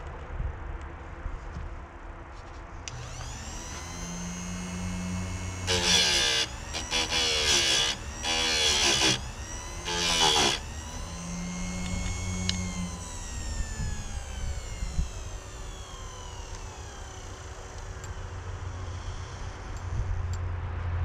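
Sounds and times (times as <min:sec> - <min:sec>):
grinding wheel on chain teeth: 0:02.9 - 0:20.2
grinding wheel motor whining: 0:02.9 - 0:20.4.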